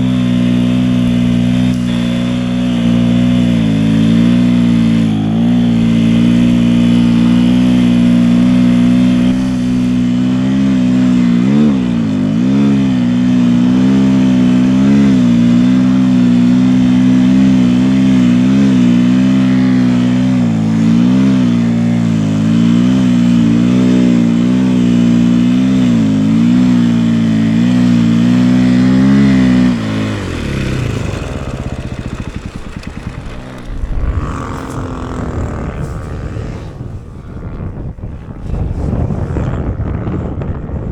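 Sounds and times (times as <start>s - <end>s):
dirt-bike engine revving: 0.0s - 40.2s.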